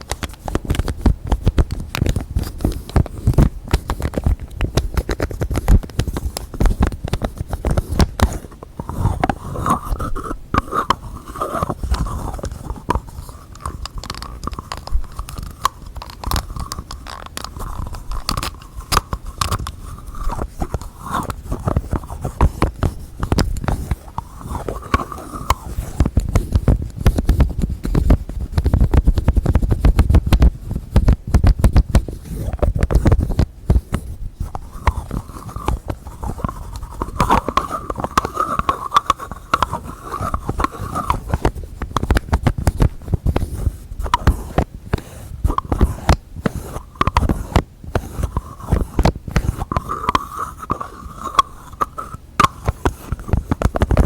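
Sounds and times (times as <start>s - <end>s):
fingertips tapping on objects: 0.0s - 54.0s.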